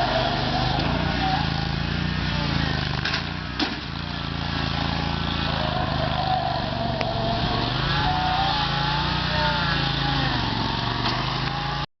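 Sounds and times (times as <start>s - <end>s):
lawn mower engine running: 0.0s - 11.9s.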